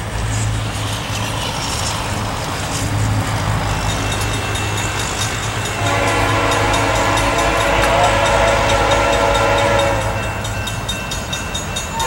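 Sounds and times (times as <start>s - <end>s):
diesel locomotive engine rumble: 0.0s - 12.0s
road vehicle noise: 0.0s - 12.0s.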